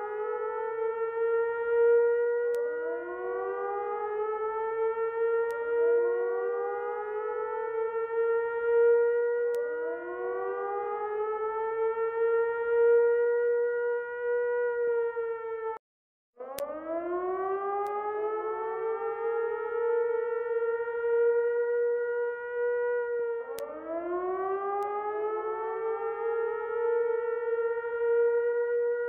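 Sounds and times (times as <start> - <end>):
siren-like wailing tones: 0.0 - 15.8, 16.4 - 29.0.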